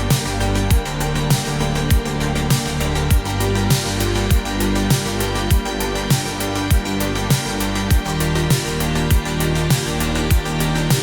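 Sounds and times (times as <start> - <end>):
synthwave music: 0.0 - 11.0.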